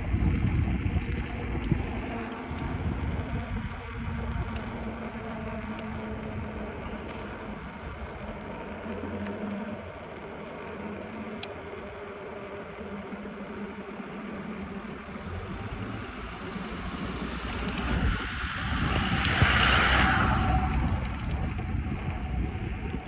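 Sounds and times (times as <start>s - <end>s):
bicycle road noise: 0.0s - 23.0s
wind noise: 0.0s - 23.0s.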